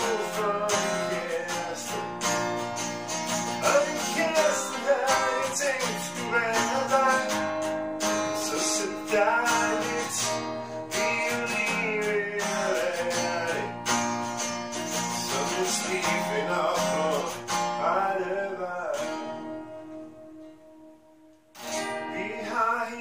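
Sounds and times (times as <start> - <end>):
man singing: 0.0 - 2.7, 3.5 - 14.0, 14.9 - 20.2, 21.7 - 23.0
acoustic guitar strummed: 0.0 - 23.0.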